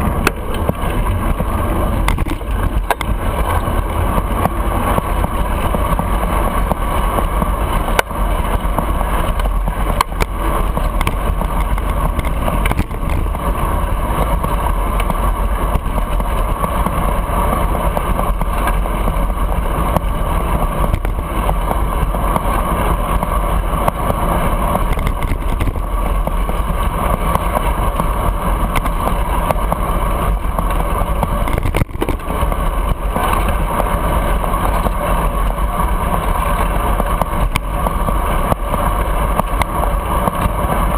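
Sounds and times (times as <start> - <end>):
bicycle riding through traffic: 0.0 - 40.9.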